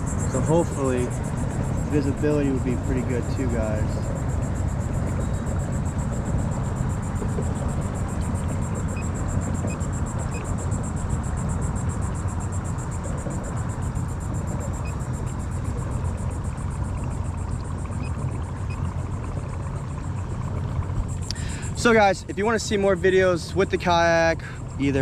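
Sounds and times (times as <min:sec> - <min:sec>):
faint high whine: 0:00.0 - 0:25.0
trolling motor rumble: 0:00.0 - 0:25.0
water: 0:00.0 - 0:25.0
wind: 0:00.0 - 0:25.0.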